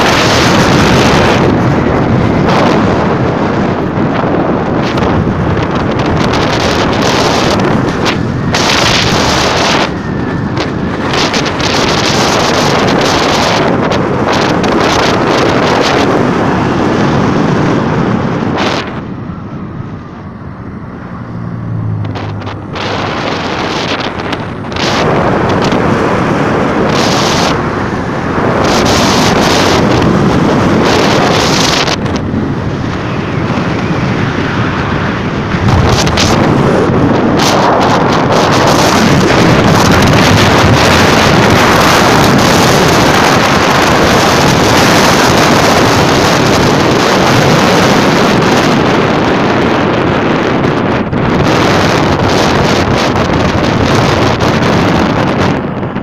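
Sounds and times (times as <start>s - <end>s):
low engine hum: 0.0s - 56.0s
wind buffeting microphone: 0.0s - 56.0s.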